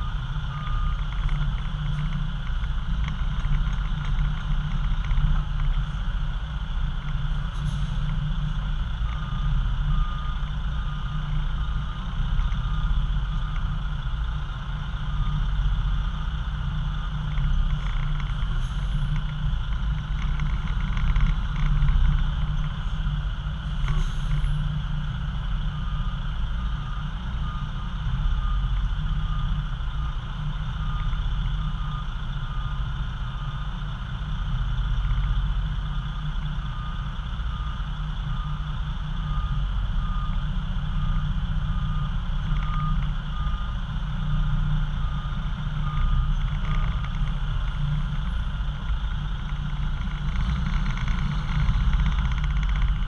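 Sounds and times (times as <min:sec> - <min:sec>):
diesel truck engine rumbling: 0:00.0 - 0:53.0
reversing alarm beeping: 0:00.0 - 0:53.0.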